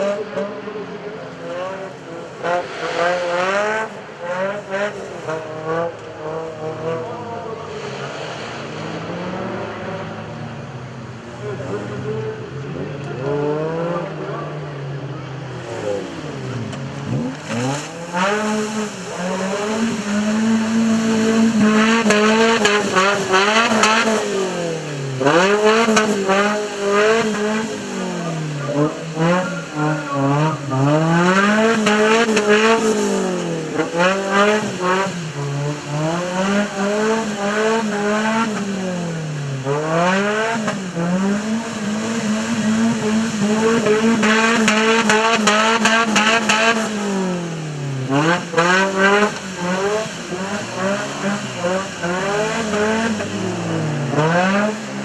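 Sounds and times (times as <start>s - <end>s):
engine revving hard: 0.0s - 55.0s.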